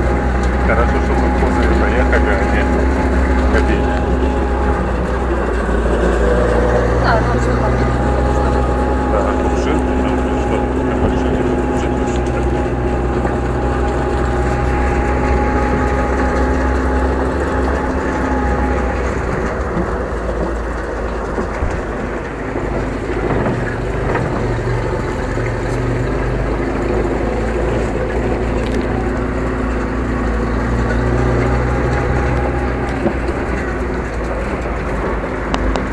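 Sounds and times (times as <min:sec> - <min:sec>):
truck engine drone: 0:00.0 - 0:35.9.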